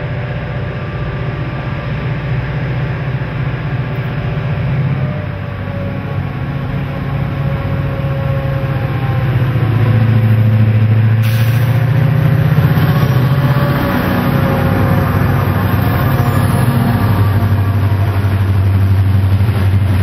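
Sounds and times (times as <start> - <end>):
diesel locomotives droning: 0.0 - 20.0.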